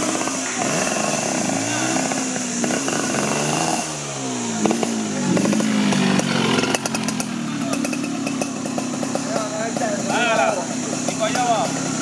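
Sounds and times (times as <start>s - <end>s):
engine crackles: 0.0s - 12.0s
small motorcycle engines revving: 0.0s - 12.0s.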